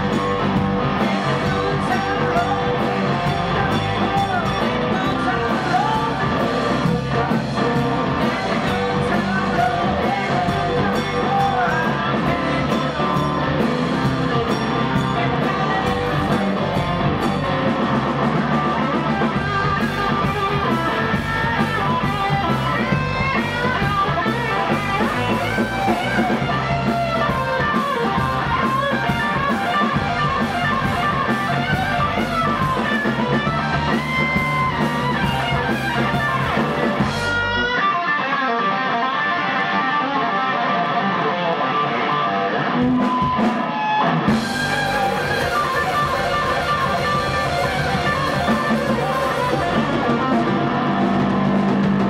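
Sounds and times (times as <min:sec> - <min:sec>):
bass guitar: 0:00.0 - 0:52.0
drums: 0:00.0 - 0:52.0
electric guitars: 0:00.0 - 0:52.0.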